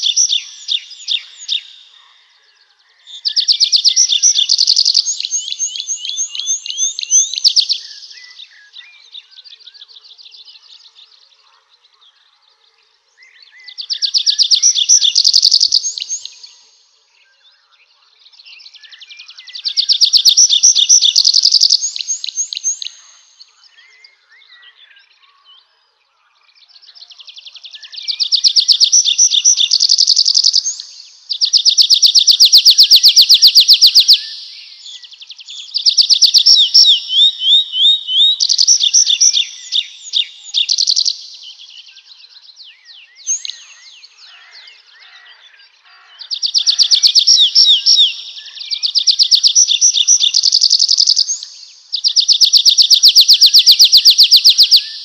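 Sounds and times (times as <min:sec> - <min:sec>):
songbird trilling: 0:00.0 - 0:02.1, 0:03.0 - 0:12.0, 0:13.3 - 0:16.7, 0:18.3 - 0:24.8, 0:26.8 - 0:55.0.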